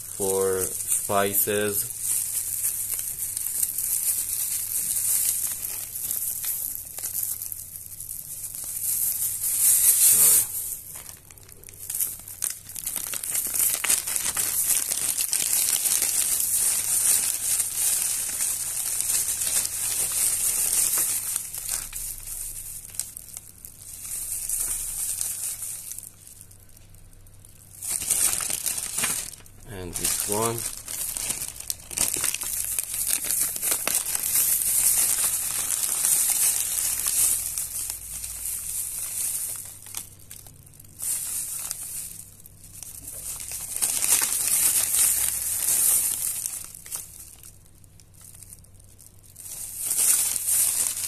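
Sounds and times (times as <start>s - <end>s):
plastic bags crinkling: 0.0s - 51.0s.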